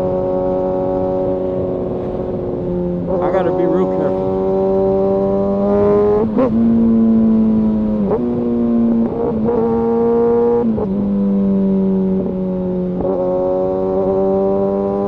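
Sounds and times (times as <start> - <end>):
motorcycle engine and exhaust running: 0.0 - 15.0.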